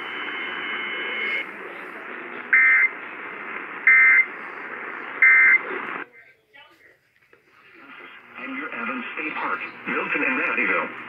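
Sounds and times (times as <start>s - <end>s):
radio hiss: 0.0s - 6.0s, 7.4s - 11.0s.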